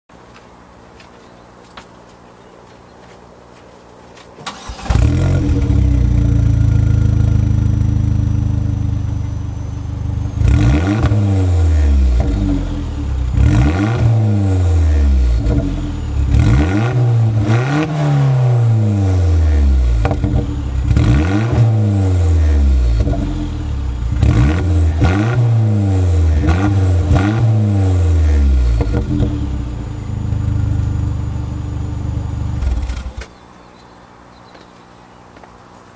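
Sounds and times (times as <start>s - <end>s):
car engine idling and revving: 4.5s - 33.3s.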